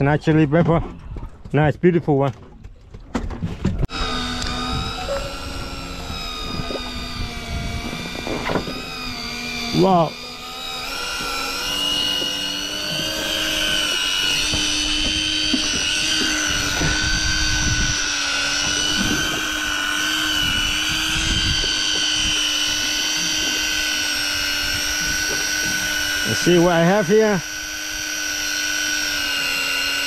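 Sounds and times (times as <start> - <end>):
electric fishing reel motor whining: 3.9 - 30.0.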